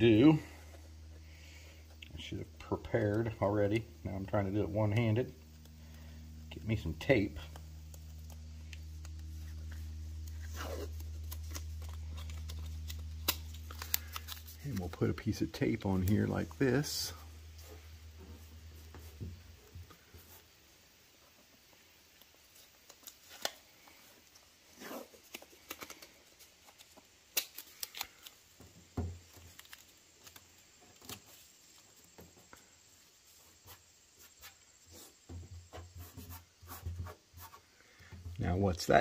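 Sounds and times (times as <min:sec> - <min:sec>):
tape ticking and rustling: 0:00.7 - 0:20.5, 0:21.2 - 0:32.7.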